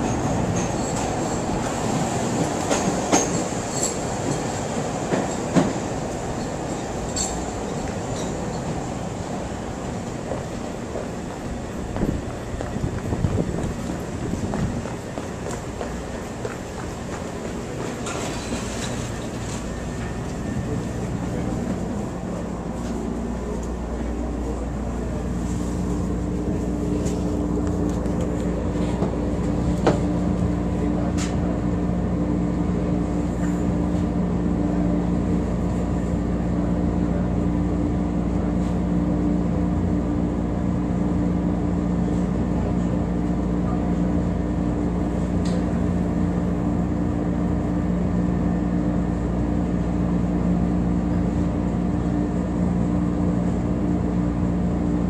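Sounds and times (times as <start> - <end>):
railcar hum with steady tones: 0.0 - 55.0.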